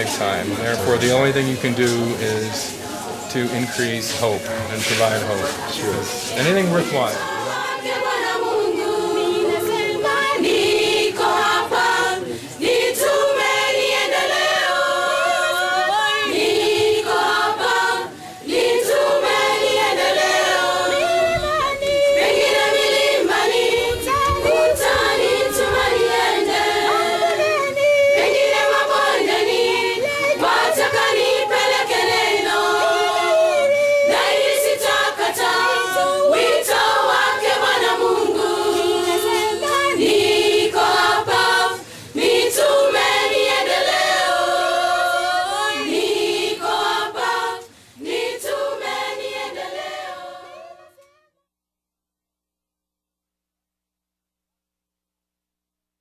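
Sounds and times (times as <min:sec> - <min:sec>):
choir singing in harmony: 0:00.0 - 0:51.0.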